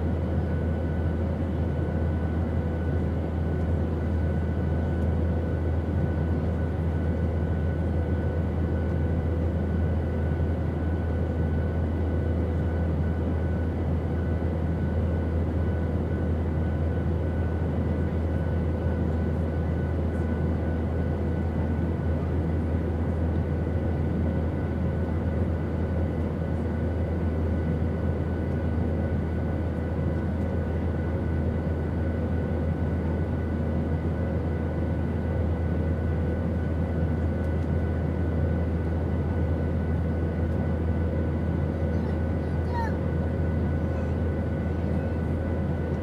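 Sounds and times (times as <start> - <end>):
airplane drone in flight: 0.0 - 46.0.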